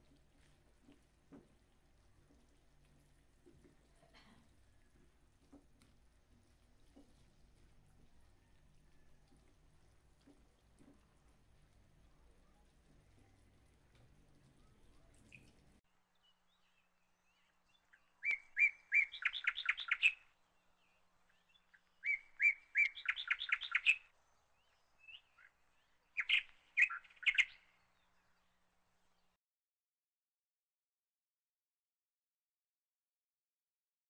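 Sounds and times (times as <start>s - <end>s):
songbird singing: 0.8s - 29.4s.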